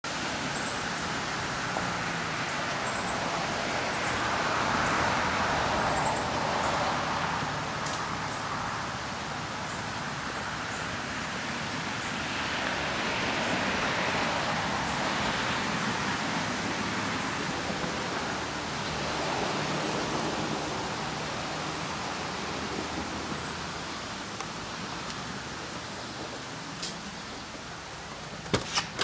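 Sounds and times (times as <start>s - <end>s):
outdoor hiss: 0.1s - 29.0s.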